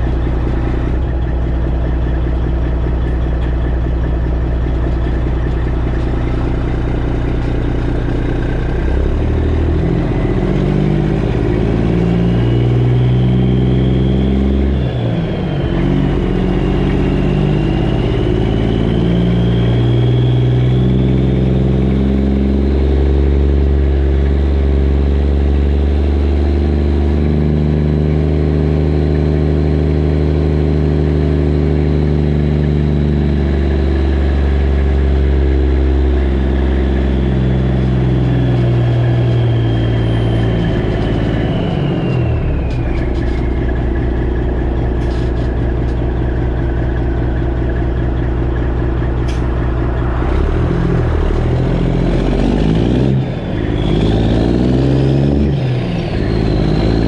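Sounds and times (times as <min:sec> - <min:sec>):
truck diesel engine under load: 0:00.0 - 0:57.0.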